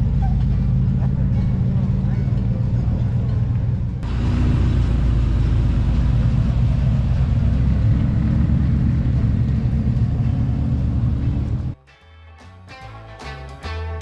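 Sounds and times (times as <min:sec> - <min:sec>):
car engine deep exhaust rumble: 0:00.0 - 0:11.8.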